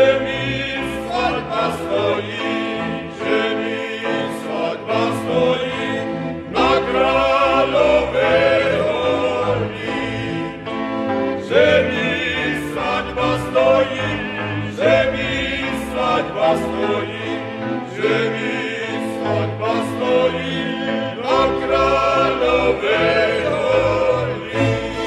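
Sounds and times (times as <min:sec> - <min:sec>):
folk instrument orchestra: 0:00.0 - 0:25.0
men singing in harmony: 0:00.0 - 0:25.0.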